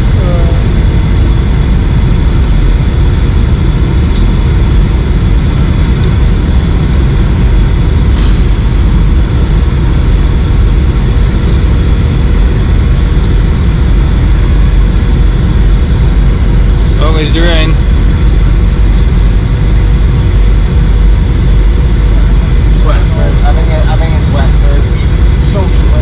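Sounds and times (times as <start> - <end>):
engine and airflow rumble: 0.0 - 26.0
thin steady whine: 0.0 - 26.0.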